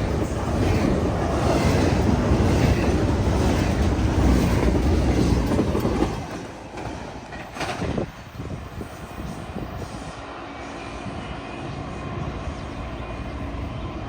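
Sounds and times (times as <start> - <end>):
train cars rumbling over rails: 0.0 - 14.0.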